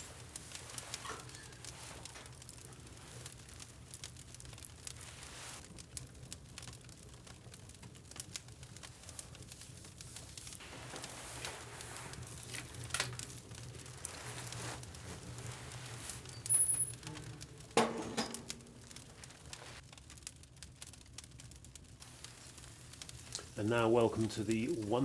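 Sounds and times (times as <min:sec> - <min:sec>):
sharp snaps and pops: 0:00.0 - 0:25.0
wood fire crackling: 0:00.0 - 0:25.0.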